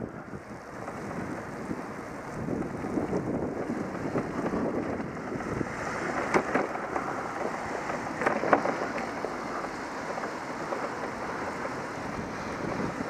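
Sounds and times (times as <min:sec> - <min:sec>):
bicycle rolling noise: 0:00.0 - 0:13.0
wind buffeting microphone: 0:00.0 - 0:13.0.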